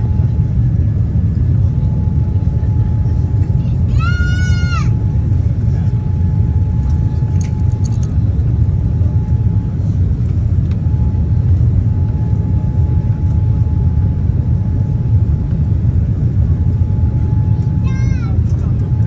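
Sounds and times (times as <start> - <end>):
faint whine: 0.0 - 19.0
vehicle rumble from inside cabin: 0.0 - 19.0.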